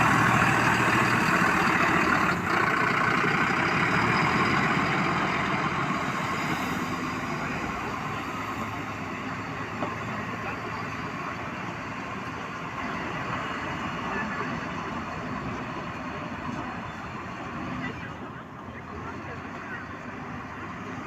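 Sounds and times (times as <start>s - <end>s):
large vehicle engine driving off: 0.0s - 21.0s.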